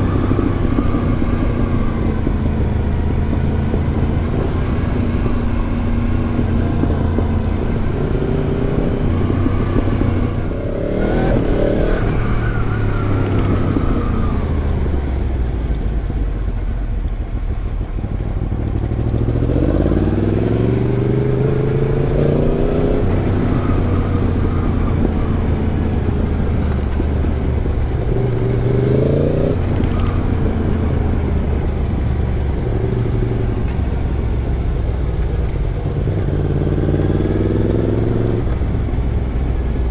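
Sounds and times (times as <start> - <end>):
motorcycle cruising: 0.0 - 39.9
motorcycle engine accelerating: 0.0 - 39.9.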